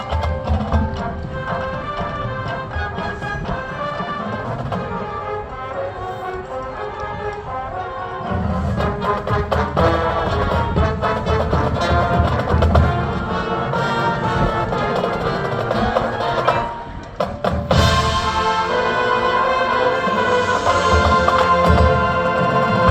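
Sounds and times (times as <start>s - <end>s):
marching band with brass and percussion: 0.0s - 22.9s.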